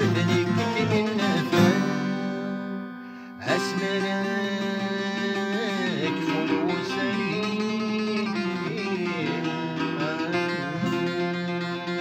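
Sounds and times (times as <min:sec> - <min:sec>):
acoustic guitars playing: 0:00.0 - 0:12.0.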